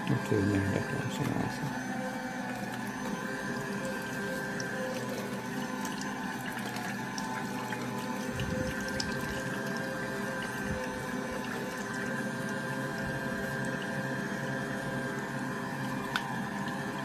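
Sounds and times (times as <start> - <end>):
juicer motor humming: 0.0 - 17.0.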